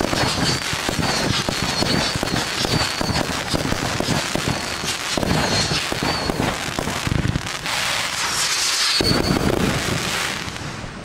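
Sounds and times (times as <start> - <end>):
fireworks bursting: 0.0 - 11.0
hissing firework burst: 0.0 - 11.0.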